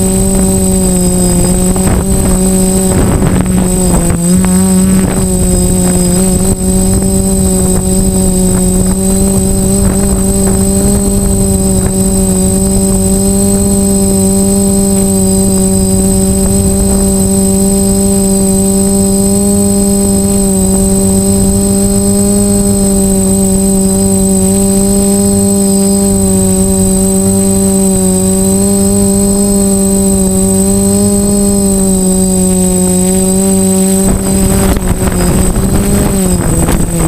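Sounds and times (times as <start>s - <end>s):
low rush of prop wash: 0.0s - 25.2s, 31.9s - 37.0s
drone motors and propellers humming: 0.0s - 37.0s
high motor whine: 0.0s - 37.0s.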